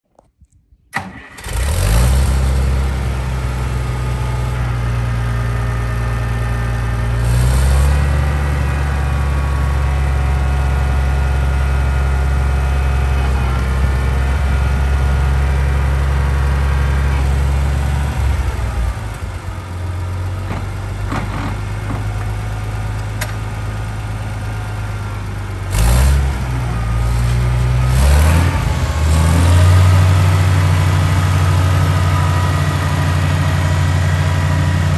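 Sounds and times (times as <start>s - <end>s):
tractor engine running: 0.9s - 34.9s.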